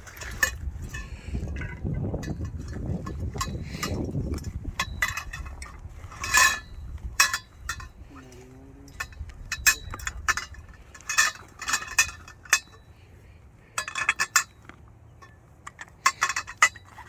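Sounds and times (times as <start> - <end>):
steel tubes clinking and clattering: 0.0 - 17.0.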